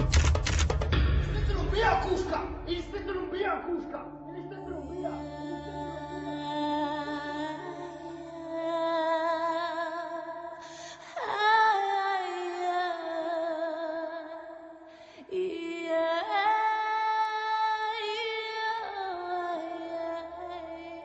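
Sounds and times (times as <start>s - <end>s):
wordless female vocal music: 2.0s - 21.0s.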